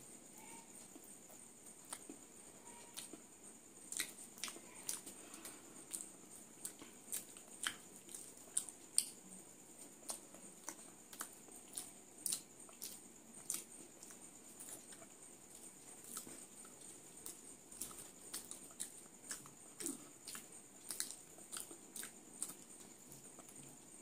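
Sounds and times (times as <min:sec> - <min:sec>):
faint steady high hiss: 0:00.0 - 0:24.0
chewing and lip-smacking: 0:00.8 - 0:02.2, 0:02.8 - 0:03.2, 0:03.8 - 0:24.0.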